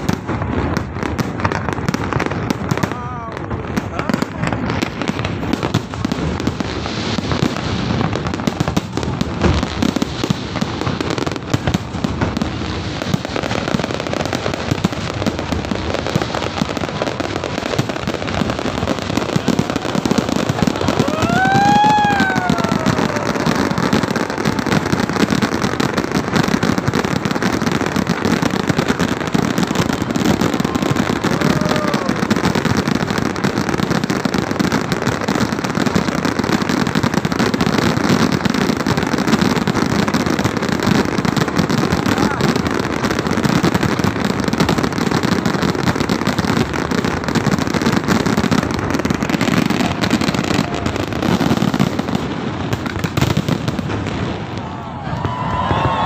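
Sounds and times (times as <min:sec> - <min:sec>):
firecrackers crackling and popping: 0:00.0 - 0:56.0
whistling firework: 0:00.0 - 0:56.0.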